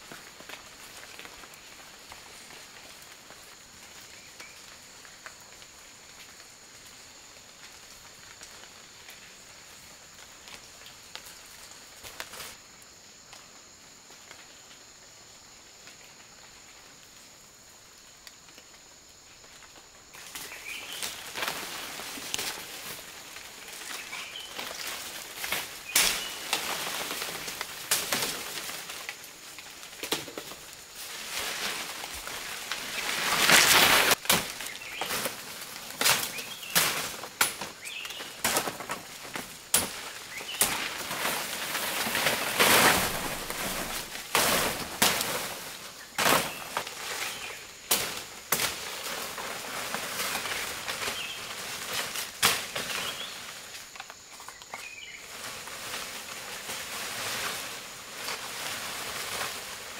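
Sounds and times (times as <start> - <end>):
leafy branches rustling: 0.0 - 59.9.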